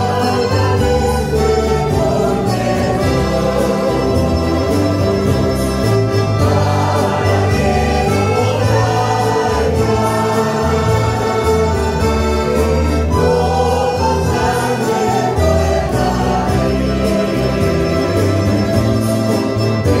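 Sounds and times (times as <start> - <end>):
accordion: 0.0 - 20.0
acoustic guitars: 0.0 - 20.0
keyboard: 0.0 - 20.0
low bass notes: 0.0 - 20.0
voices singing a hymn: 0.0 - 20.0.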